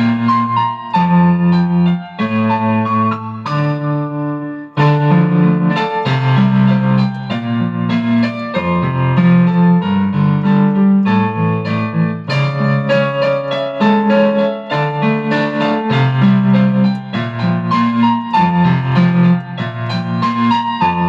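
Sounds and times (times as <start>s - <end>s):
electric keyboard piano chords: 0.0s - 21.0s.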